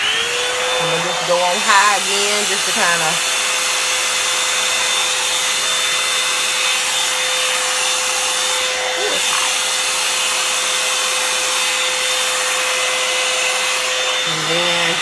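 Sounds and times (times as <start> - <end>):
hair dryer brush running: 0.0 - 15.0.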